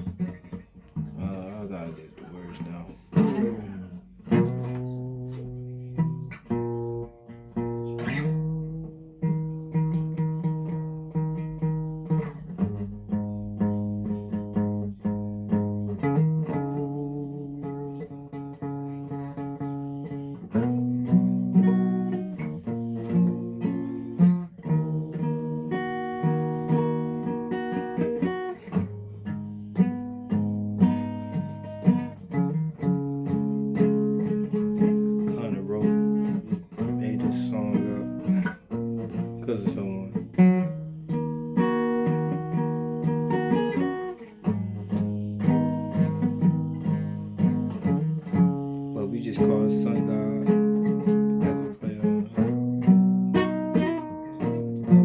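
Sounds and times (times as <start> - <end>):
guitar strumming chords: 0.0 - 55.0.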